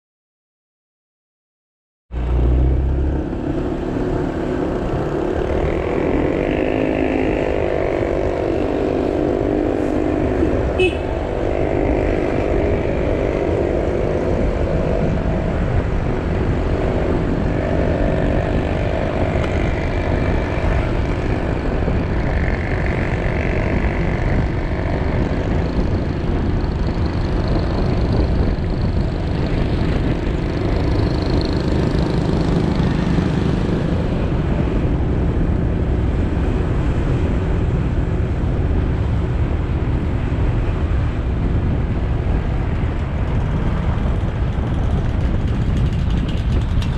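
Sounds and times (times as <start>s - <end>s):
low rumble of road noise: 2.1s - 46.9s
motorcycle engine running: 2.8s - 46.9s.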